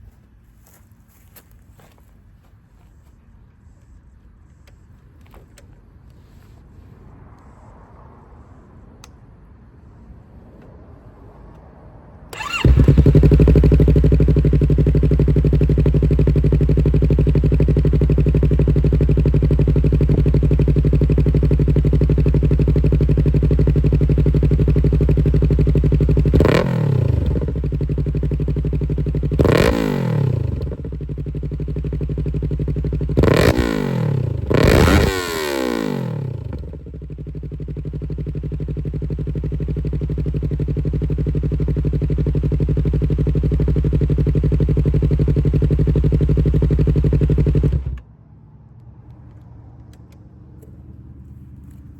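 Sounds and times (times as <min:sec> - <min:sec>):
motorcycle engine idling and revving: 0:02.8 - 0:51.9.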